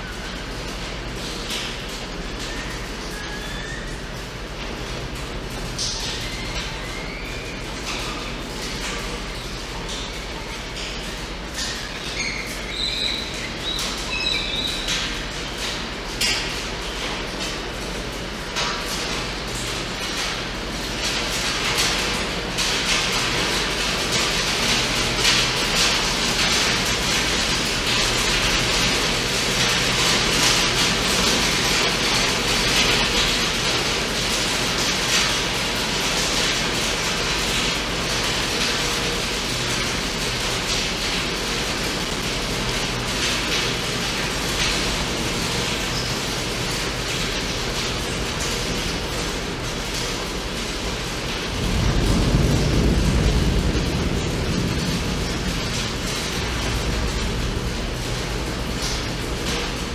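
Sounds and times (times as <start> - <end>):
rain on wood: 0.0 - 59.9.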